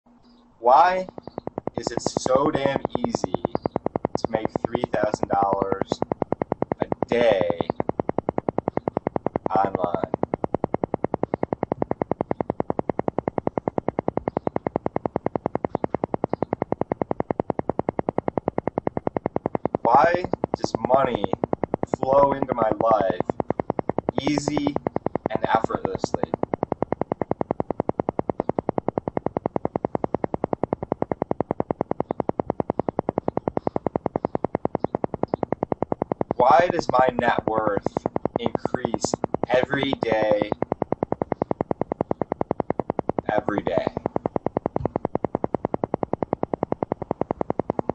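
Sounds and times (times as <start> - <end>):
synthesized pulsing tone: 0.1 - 47.9.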